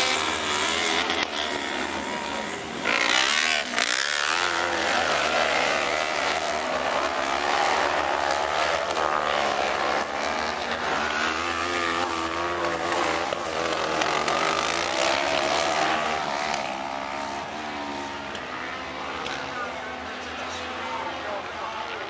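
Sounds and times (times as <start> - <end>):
buggy engines revving: 0.0 - 22.0.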